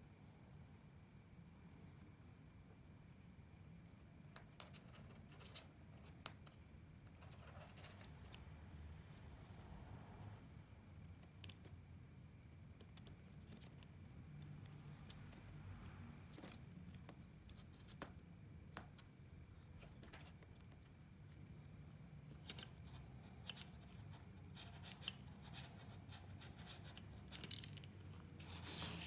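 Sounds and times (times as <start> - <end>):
low room hum: 0.0 - 29.0.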